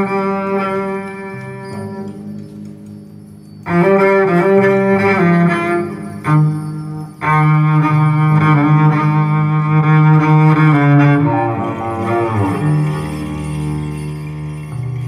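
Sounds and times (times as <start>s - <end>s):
jazz with bowed low string: 0.0s - 15.0s.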